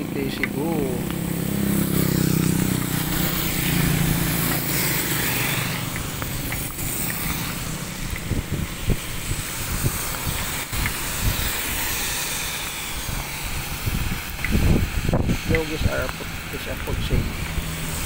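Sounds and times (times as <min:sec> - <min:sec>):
heavy rain on wet road: 0:00.0 - 0:18.0
vehicle engine running: 0:00.0 - 0:18.0.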